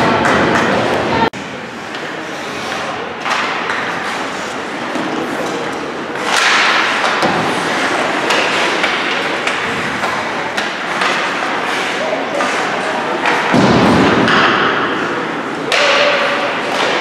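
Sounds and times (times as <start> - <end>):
hockey sticks and puck clacking: 0.0 - 17.0.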